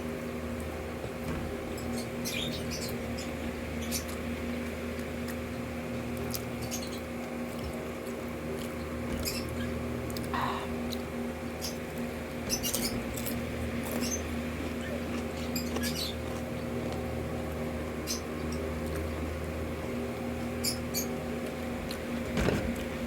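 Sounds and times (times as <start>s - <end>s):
steady low hum: 0.0s - 23.0s
crunchy chewing: 3.8s - 23.0s.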